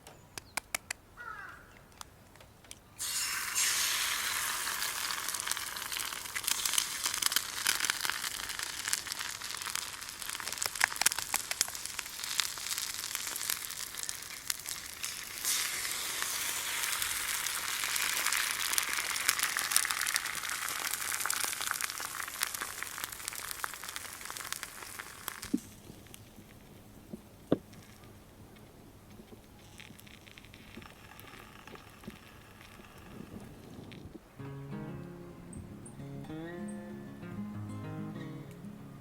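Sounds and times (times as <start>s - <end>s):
wood fire sizzling and crackling: 3.0s - 34.8s.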